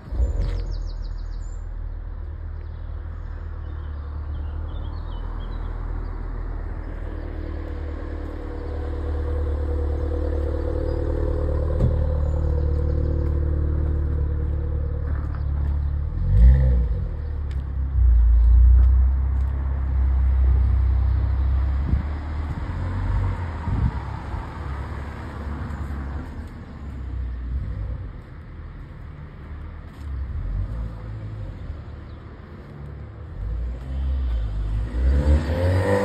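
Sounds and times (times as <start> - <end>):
passing vehicle engine drone: 3.0 - 36.0.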